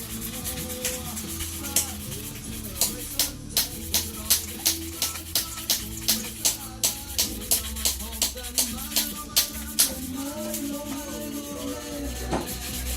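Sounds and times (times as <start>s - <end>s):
shaker beat: 0.0s - 12.9s.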